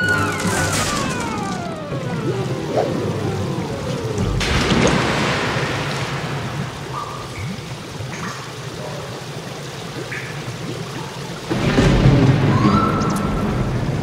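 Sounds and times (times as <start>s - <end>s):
cartoon flood water rush: 0.0s - 14.0s
bubbling gurgles: 1.8s - 14.0s
water drips: 1.9s - 13.7s.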